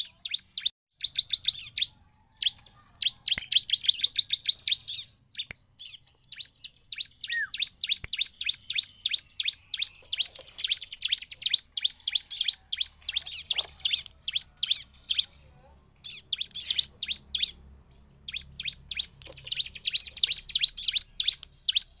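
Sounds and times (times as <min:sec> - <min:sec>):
bird chirping sharply: 0:00.0 - 0:22.0.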